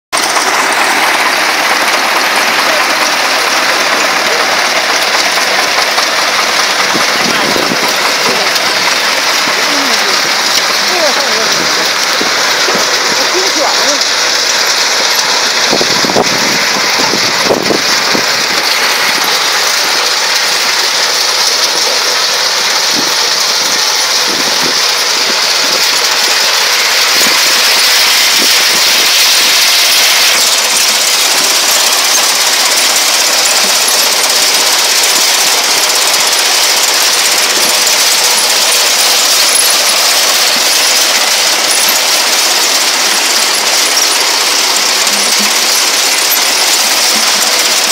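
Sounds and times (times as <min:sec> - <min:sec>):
tractor engine: 0:00.1 - 0:47.9
harvester conveyor mechanical noise: 0:00.2 - 0:47.9
mechanical knocks: 0:00.2 - 0:47.9.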